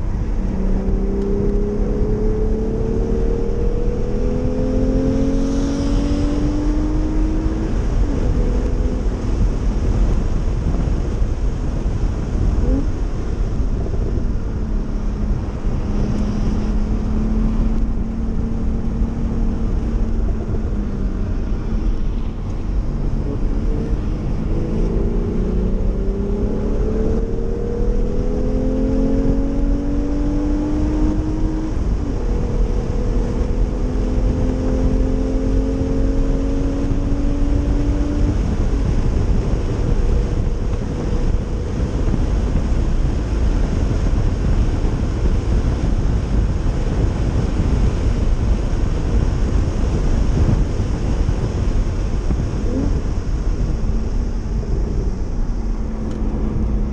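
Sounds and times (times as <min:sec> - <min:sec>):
car engine revving: 0:00.0 - 0:56.9
steady low rumble: 0:00.0 - 0:56.9.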